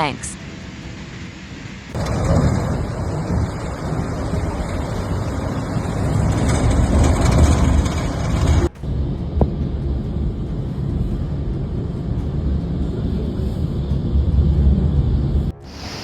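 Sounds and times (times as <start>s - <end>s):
rushing floodwater rumble: 1.8s - 16.0s.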